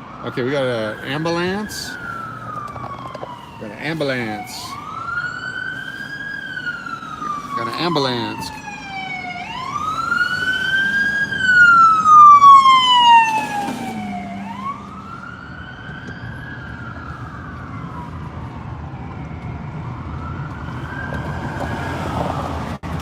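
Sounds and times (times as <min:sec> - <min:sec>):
ambulance siren wailing: 0:00.0 - 0:23.0.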